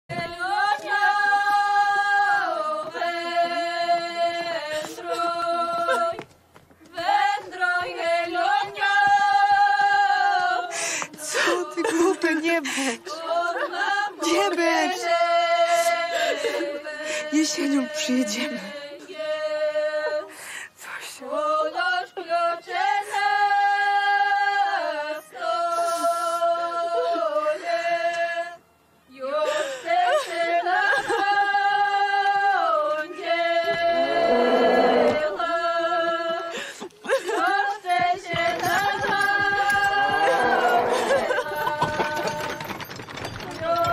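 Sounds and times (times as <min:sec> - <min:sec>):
women singing unaccompanied folk song: 0:00.1 - 0:43.9.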